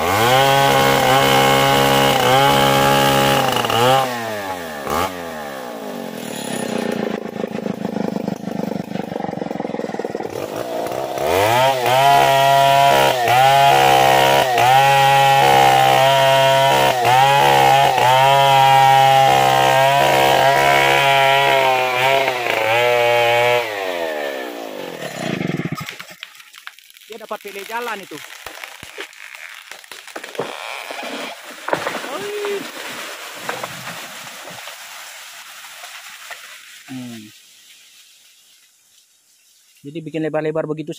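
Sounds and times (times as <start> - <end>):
chainsaw cutting tree: 0.0 - 37.2.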